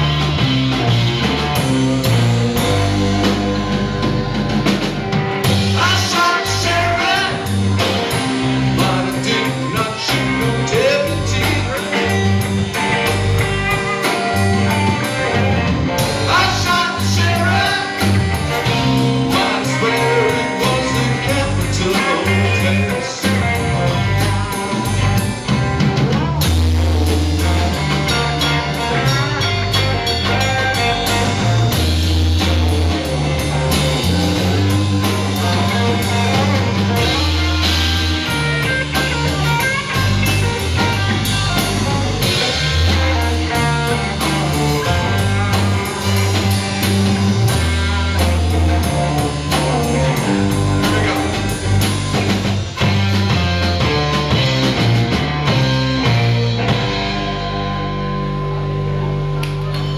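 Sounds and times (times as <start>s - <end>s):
bass guitar line: 0.0s - 59.9s
drum kit: 0.0s - 59.9s
electric guitars: 0.0s - 59.9s.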